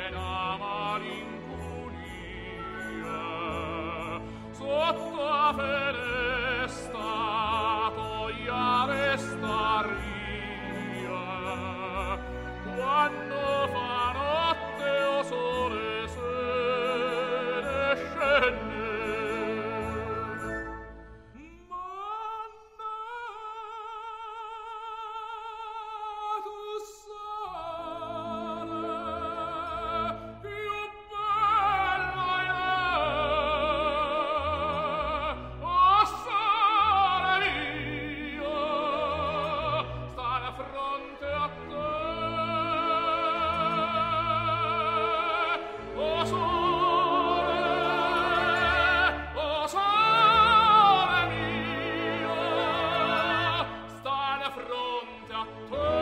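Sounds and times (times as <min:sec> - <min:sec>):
operatic singing: 0:00.0 - 0:56.0.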